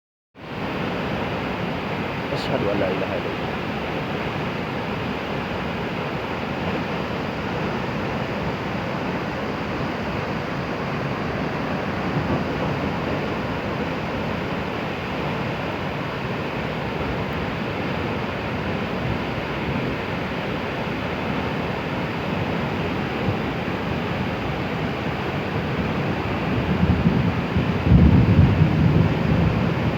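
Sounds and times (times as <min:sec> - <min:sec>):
heavy water rushing: 0:00.4 - 0:29.9.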